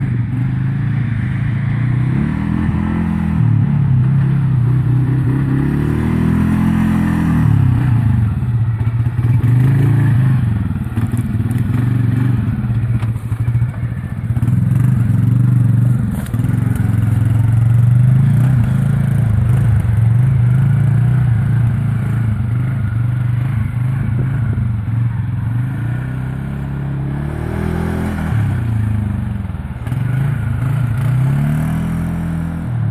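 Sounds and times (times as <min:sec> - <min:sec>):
atv engine revving: 0:00.0 - 0:32.9.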